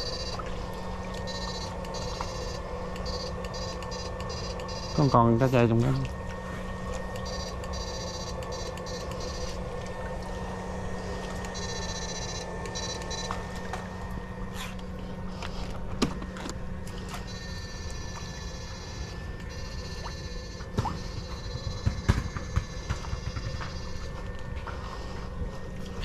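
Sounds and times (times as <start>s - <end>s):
high electronic buzz: 0.0s - 26.0s
steady low hum: 0.0s - 26.0s.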